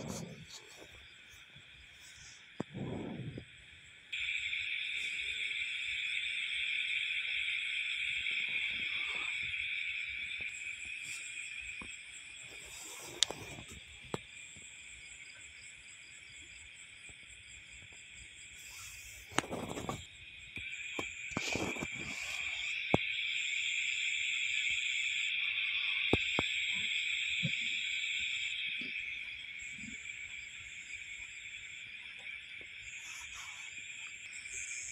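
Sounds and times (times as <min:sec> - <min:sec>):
night insects chirping: 0:00.0 - 0:34.9.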